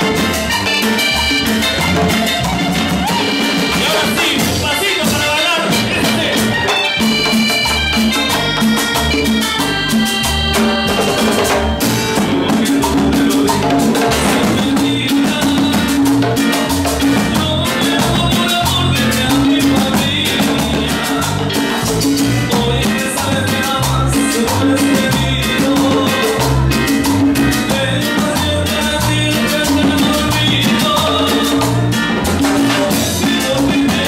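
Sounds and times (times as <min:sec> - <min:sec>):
latin dance music: 0:00.0 - 0:34.0.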